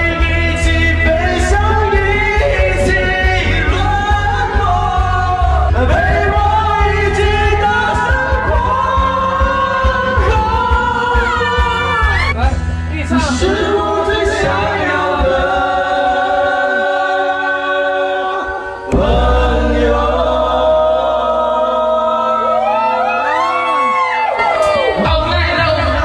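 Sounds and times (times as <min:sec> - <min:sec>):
karaoke backing track: 0:00.0 - 0:26.0
men singing karaoke: 0:00.0 - 0:26.0.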